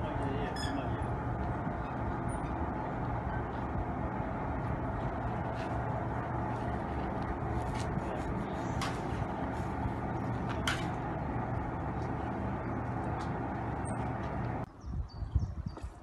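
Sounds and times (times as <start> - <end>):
slipway trolley rumble and hum: 0.0 - 14.7.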